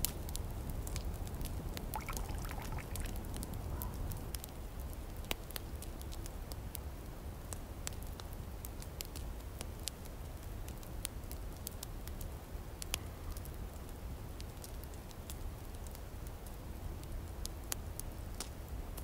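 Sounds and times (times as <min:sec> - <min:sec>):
campfire crackling and popping: 0:00.0 - 0:03.6, 0:04.2 - 0:19.0.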